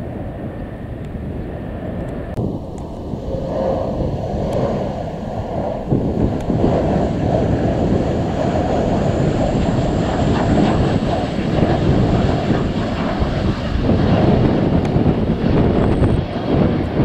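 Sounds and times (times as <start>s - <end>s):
jet airliner engines passing overhead: 0.0s - 17.0s.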